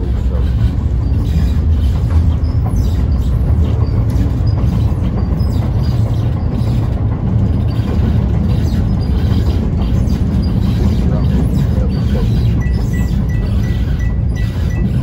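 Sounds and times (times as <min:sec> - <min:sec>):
rail vehicle rumbling on track: 0:00.0 - 0:15.0.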